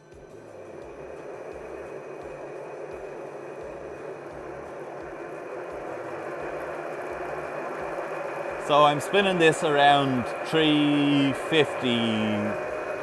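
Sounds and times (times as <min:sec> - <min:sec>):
milling machine spindle whirring: 0:00.0 - 0:13.0.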